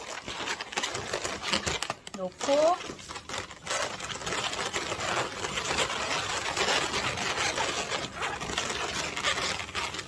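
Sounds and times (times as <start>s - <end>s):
balloons rubbing together: 0.0s - 10.0s.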